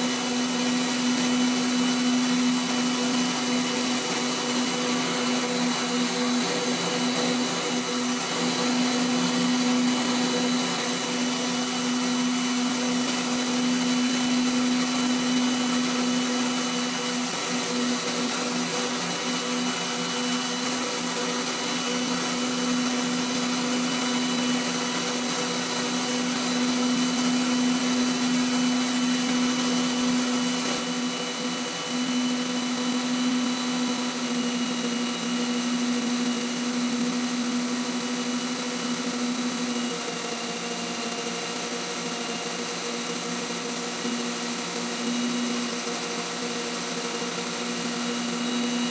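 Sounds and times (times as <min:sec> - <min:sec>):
grinder motor whine: 0:00.0 - 0:48.9.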